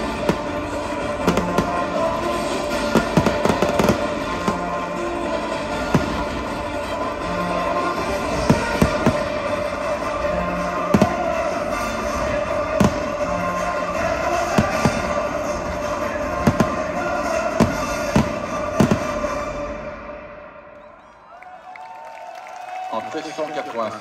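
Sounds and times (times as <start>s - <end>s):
fireworks bangs: 0.0s - 20.2s
music: 0.0s - 21.4s.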